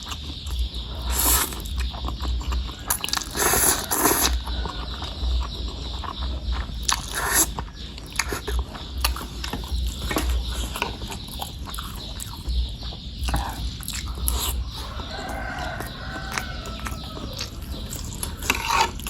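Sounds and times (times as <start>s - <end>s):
person chewing and mouth smacking: 0.0s - 19.0s.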